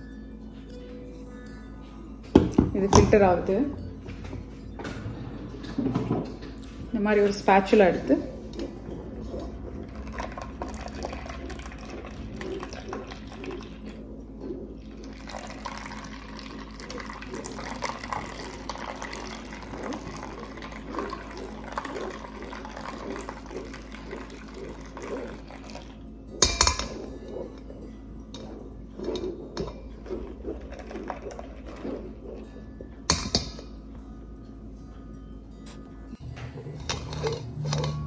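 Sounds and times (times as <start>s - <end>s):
juice trickling through strainer: 4.4s - 34.0s, 36.2s - 38.0s.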